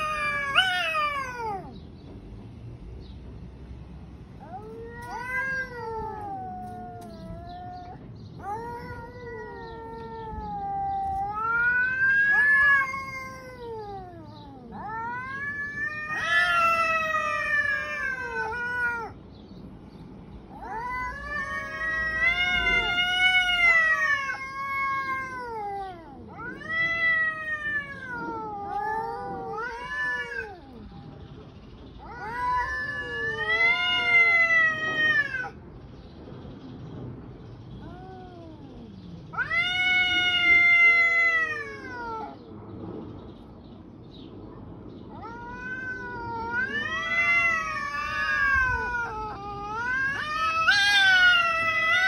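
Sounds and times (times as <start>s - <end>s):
cats yowling: 0.0s - 1.8s, 4.3s - 19.3s, 20.4s - 31.2s, 31.9s - 35.6s, 37.8s - 42.5s, 45.0s - 52.0s.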